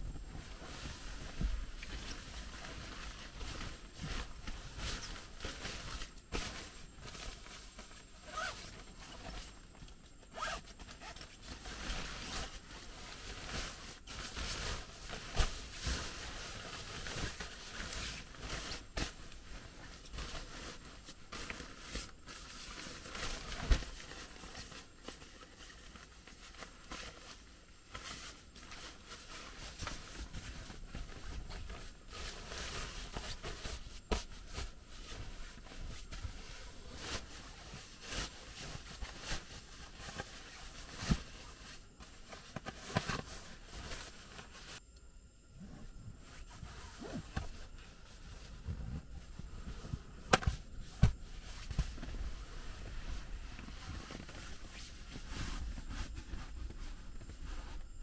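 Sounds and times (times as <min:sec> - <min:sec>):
rustling handling noise: 0:00.0 - 0:44.8, 0:45.6 - 0:58.0.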